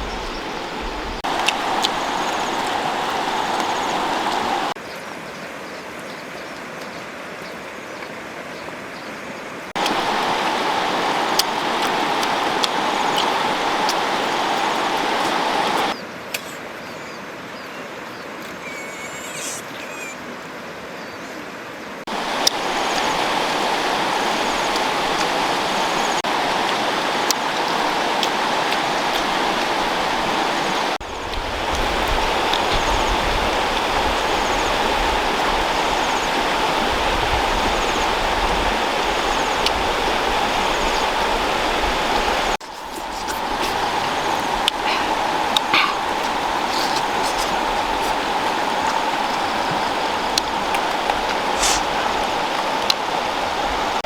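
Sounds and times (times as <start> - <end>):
rushing water: 0.0 - 16.0, 18.6 - 54.0.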